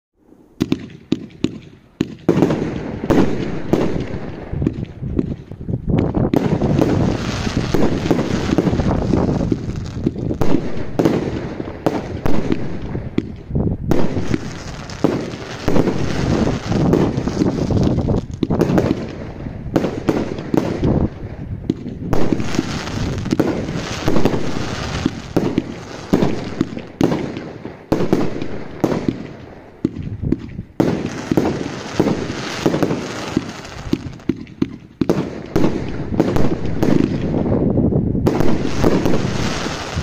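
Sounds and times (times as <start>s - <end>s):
fireworks bangs: 0.6s - 40.0s.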